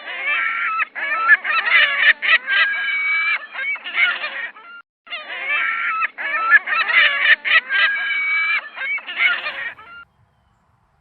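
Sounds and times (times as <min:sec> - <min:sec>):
seagulls calling: 0:00.0 - 0:11.0.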